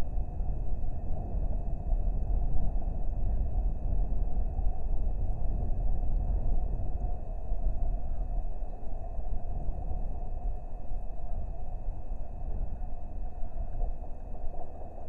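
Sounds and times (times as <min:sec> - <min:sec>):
faint high whine: 0:00.0 - 0:15.0
wind buffeting microphone: 0:00.0 - 0:15.0.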